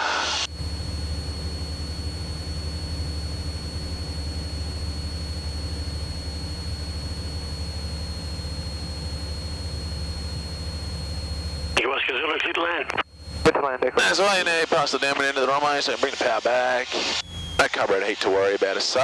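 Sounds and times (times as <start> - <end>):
airplane engine and propeller drone: 0.0 - 19.0
thin high whine: 0.0 - 19.0.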